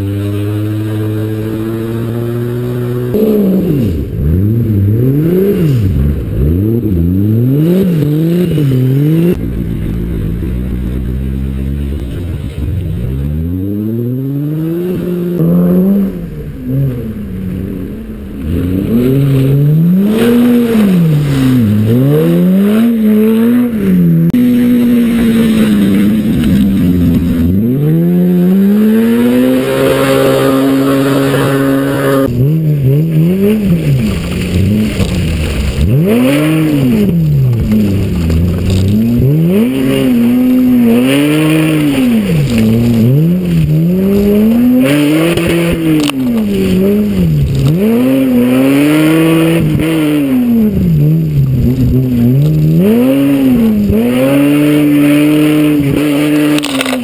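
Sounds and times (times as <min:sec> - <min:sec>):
car engine revving: 0:00.0 - 0:57.0
tyres churning through mud: 0:00.0 - 0:57.0.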